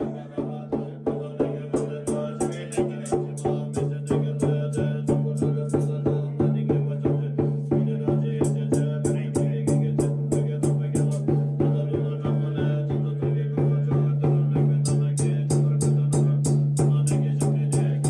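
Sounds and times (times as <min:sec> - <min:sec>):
sharp percussion beat: 0:00.0 - 0:18.0.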